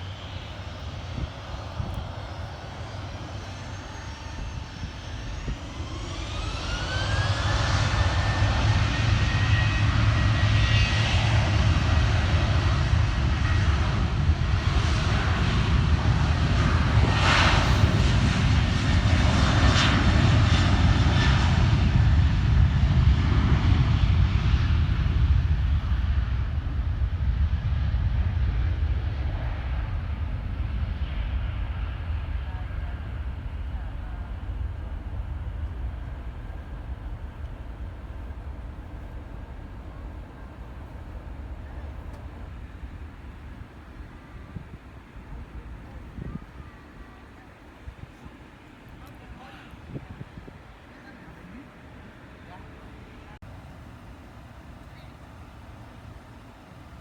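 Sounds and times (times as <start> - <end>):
jet airliner passing: 0.0 - 57.0.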